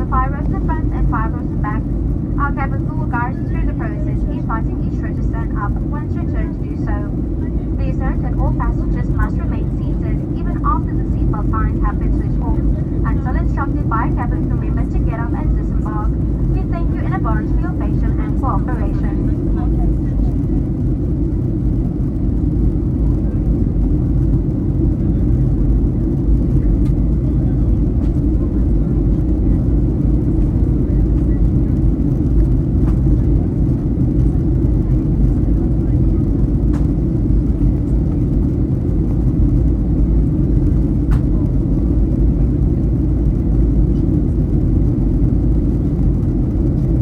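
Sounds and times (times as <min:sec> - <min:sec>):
airflow along fuselage: 0:00.0 - 0:47.0
jet engines: 0:00.0 - 0:47.0.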